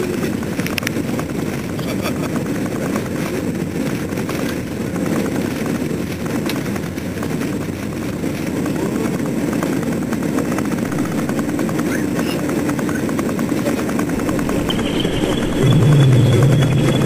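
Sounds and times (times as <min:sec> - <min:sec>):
jet engines at takeoff: 0:00.0 - 0:17.0
wheels rumbling on runway: 0:00.0 - 0:17.0.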